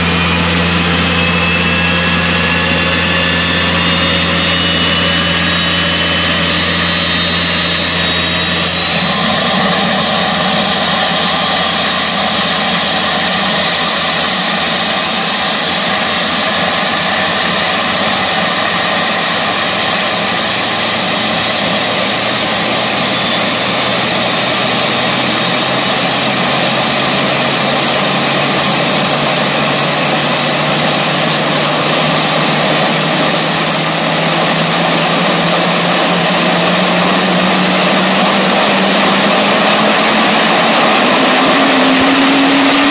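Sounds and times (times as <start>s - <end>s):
high turbine whine rising: 0.0s - 42.9s
low hum: 0.0s - 42.9s
turboprop engine spooling up: 0.0s - 42.9s.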